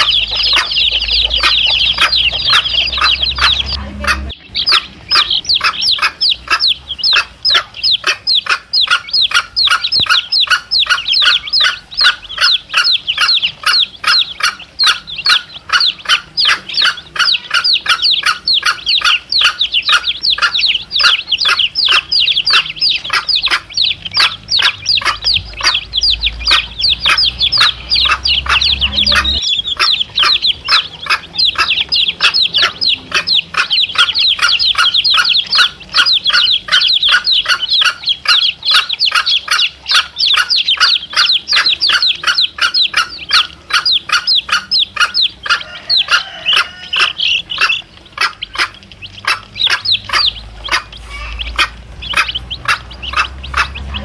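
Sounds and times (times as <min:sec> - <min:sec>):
chicks peeping: 0:00.0 - 0:54.0
hen clucking: 0:00.0 - 0:54.0.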